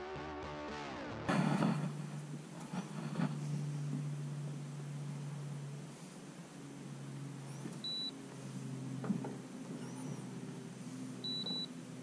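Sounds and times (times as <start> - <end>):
electric motor humming: 1.3 - 12.0.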